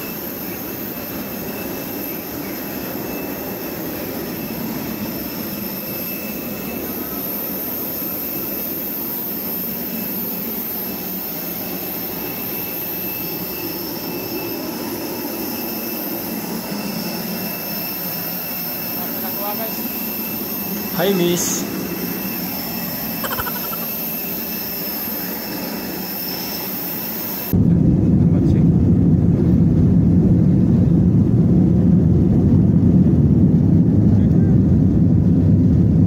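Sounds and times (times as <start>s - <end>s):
high-pitched whine: 0.0s - 36.0s
jet engine rumble: 0.0s - 36.0s.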